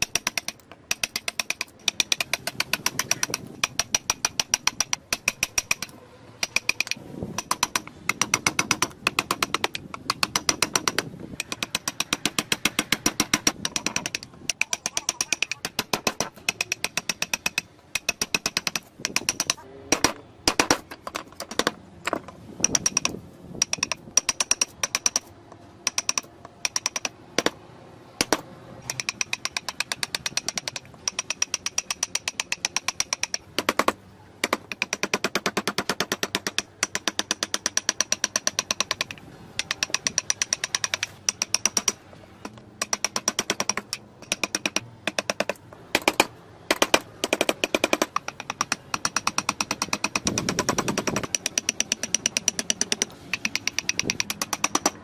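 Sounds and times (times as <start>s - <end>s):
mallet tapping chisel into wood: 0.0s - 25.3s, 25.9s - 27.6s, 28.2s - 55.0s.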